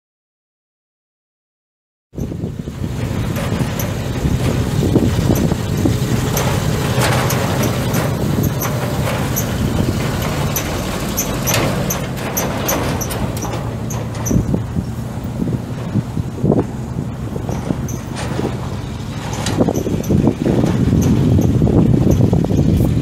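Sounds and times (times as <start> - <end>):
truck engine running: 2.2 - 23.0.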